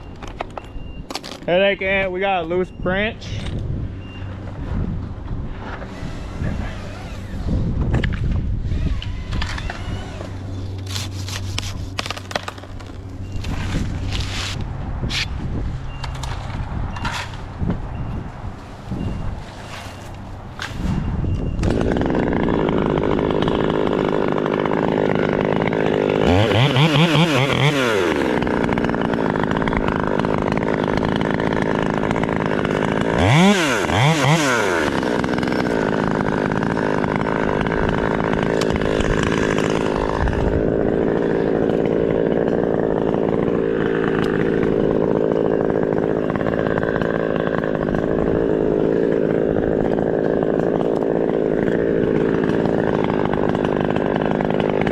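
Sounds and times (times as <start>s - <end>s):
chainsaw running and revving: 5.5s - 54.9s.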